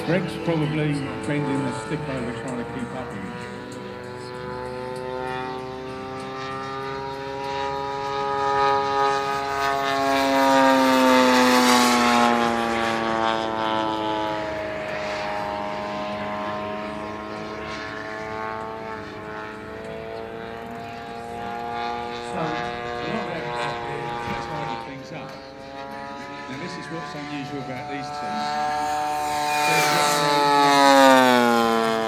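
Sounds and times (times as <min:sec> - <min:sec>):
model plane engine droning: 0:00.0 - 0:32.0.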